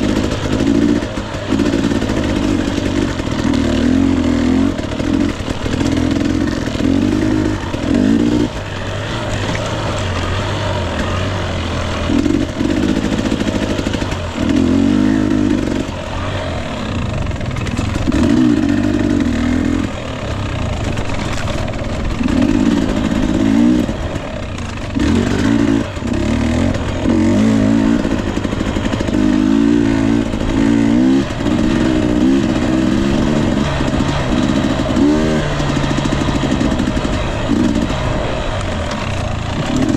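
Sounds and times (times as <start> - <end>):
dirt bike engine throttle bursts: 0.0 - 39.9.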